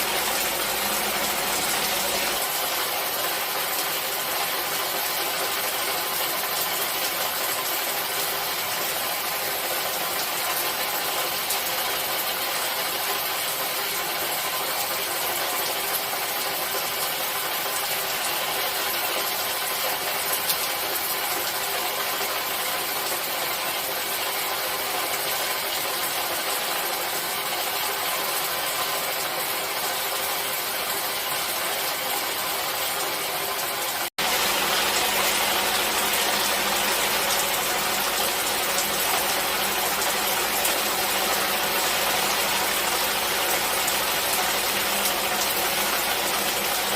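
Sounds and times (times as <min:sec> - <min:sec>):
steady rain hiss: 0:00.0 - 0:22.6, 0:31.6 - 0:46.9.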